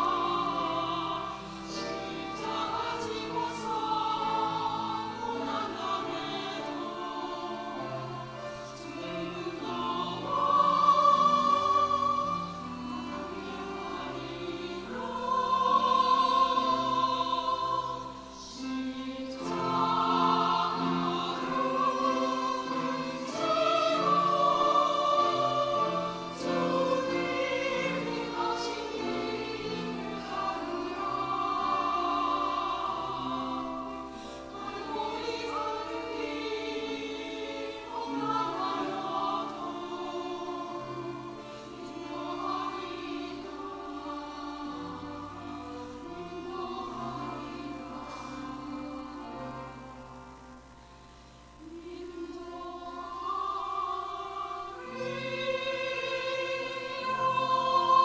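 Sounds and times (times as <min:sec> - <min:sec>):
women's choir singing: 0:00.0 - 0:50.6, 0:51.5 - 0:58.0
piano accompaniment: 0:00.0 - 0:51.9.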